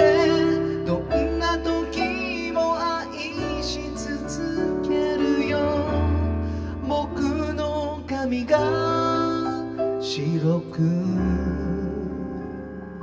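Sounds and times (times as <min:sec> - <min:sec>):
keyboards: 0:00.0 - 0:13.0.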